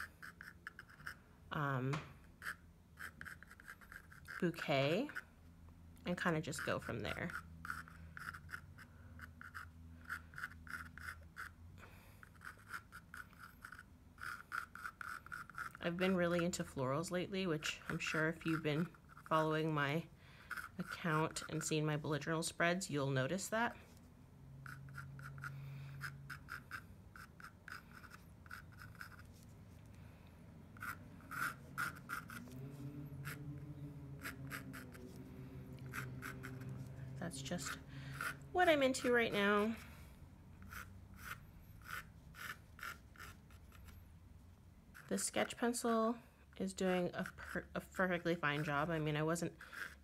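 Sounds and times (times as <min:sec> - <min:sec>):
pencil scratching on canvas: 0:00.0 - 0:01.3, 0:02.4 - 0:05.3, 0:06.1 - 0:11.6, 0:12.2 - 0:24.0, 0:24.6 - 0:29.5, 0:30.7 - 0:40.0, 0:40.6 - 0:44.0, 0:44.9 - 0:46.0, 0:46.7 - 0:50.0.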